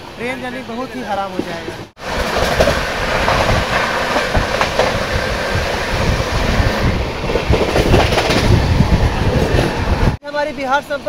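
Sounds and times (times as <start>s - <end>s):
passing train: 0.0s - 11.0s
train rumble and rush: 0.0s - 11.0s
wheels clacking over rail joints: 1.2s - 10.2s.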